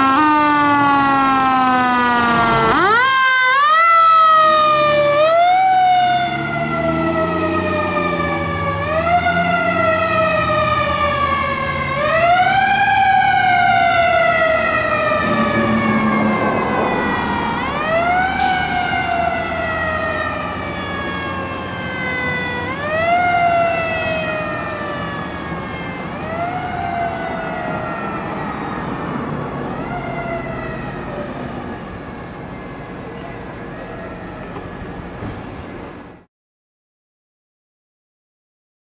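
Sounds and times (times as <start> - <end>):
fire engine siren wailing: 0.0 - 36.3
low traffic and engine rumble: 0.0 - 36.3.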